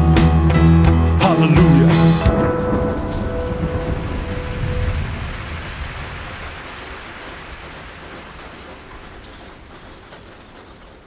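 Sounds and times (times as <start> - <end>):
steady rain falling: 1.3 - 11.0.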